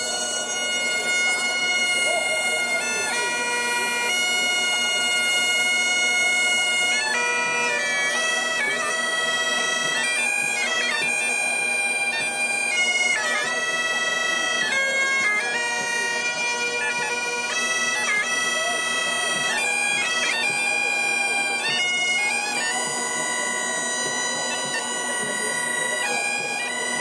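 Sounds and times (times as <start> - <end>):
bagpipes playing: 0.0 - 27.0.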